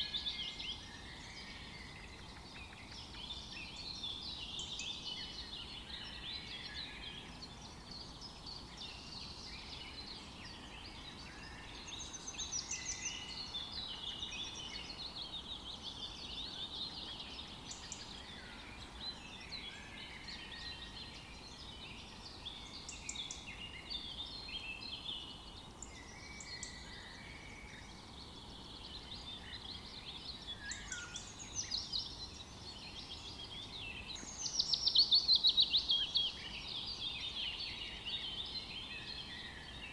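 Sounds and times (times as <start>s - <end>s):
faint background hiss: 0.0s - 39.9s
songbirds chorus: 0.0s - 39.9s.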